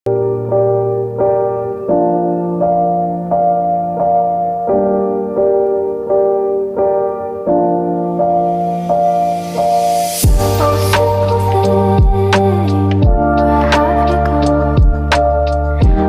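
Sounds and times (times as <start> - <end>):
keyboard playing sustained chords: 0.1 - 16.0.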